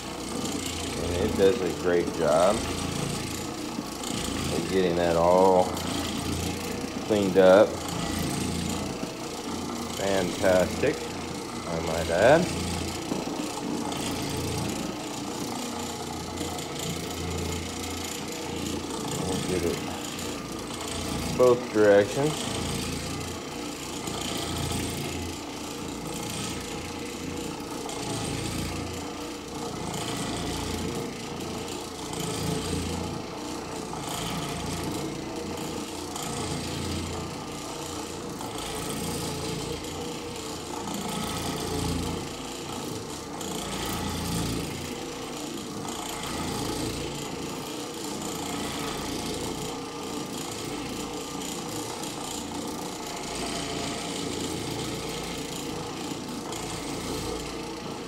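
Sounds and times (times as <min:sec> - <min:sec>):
floor machine scrubbing carpet: 0:00.0 - 0:58.0.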